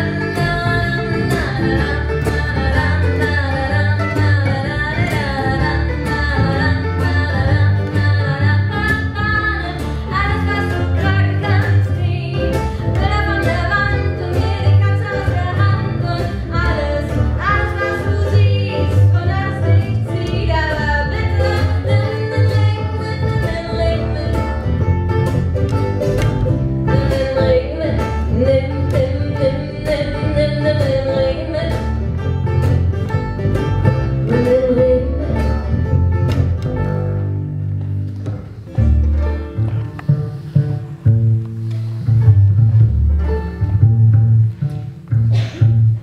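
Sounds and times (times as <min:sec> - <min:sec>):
acoustic guitars: 0:00.0 - 0:46.0
plucked double bass: 0:00.0 - 0:46.0.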